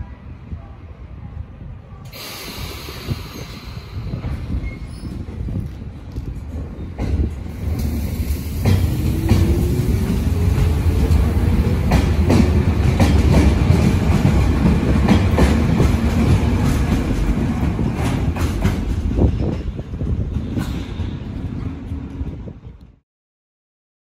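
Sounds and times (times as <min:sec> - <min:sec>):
train wheels clacking over rail joints: 0:03.1 - 0:22.5.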